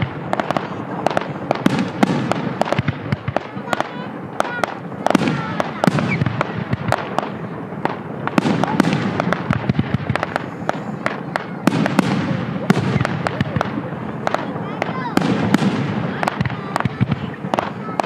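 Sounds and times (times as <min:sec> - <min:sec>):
fireworks bangs and crackles: 0:00.0 - 0:18.0
fireworks whistles: 0:00.0 - 0:18.0.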